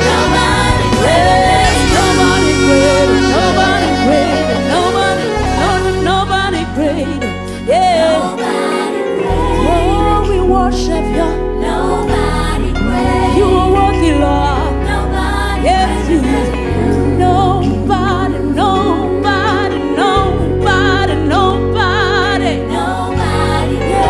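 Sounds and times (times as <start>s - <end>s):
person singing with vibrato: 0.0s - 24.0s
sustained bass and chords: 0.0s - 24.0s.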